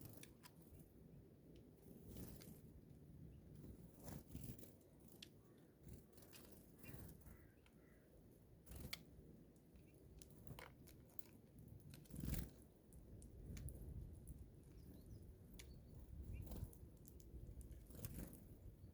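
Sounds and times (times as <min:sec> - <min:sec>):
birds pecking seed: 0:00.0 - 0:18.9.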